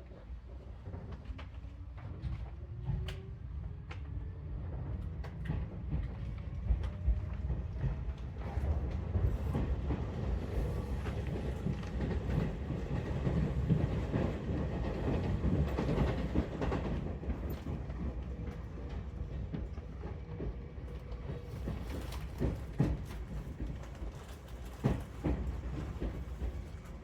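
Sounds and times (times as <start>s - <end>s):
train low rumble: 0.0s - 27.0s.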